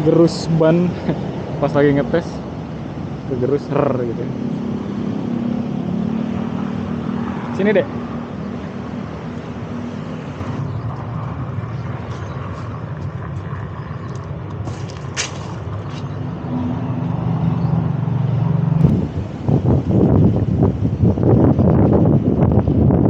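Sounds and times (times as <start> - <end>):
vehicle engine running: 0.0 - 23.0
wind buffeting microphone: 0.0 - 23.0.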